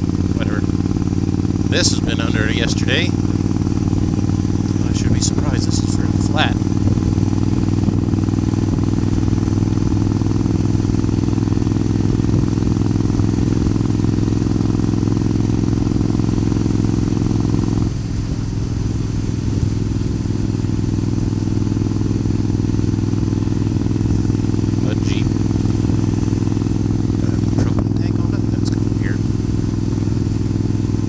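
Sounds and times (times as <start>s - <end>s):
motorcycle engine cruising: 0.0s - 31.0s.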